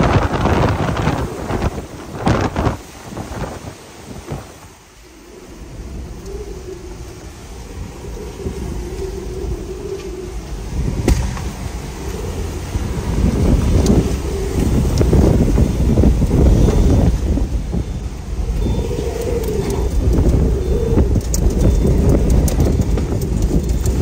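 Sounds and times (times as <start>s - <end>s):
heavy rain: 0.0s - 24.0s
strong wind gusting: 0.0s - 24.0s.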